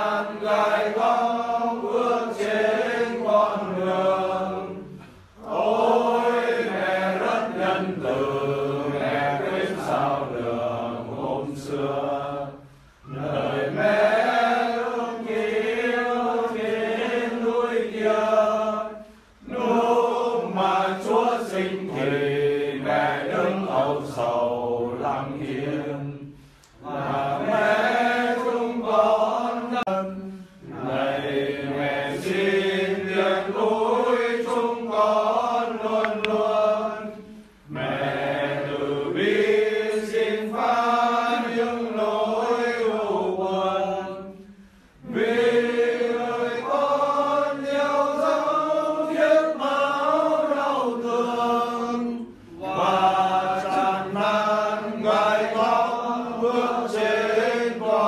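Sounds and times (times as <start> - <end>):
person singing a hymn: 0.0 - 58.0.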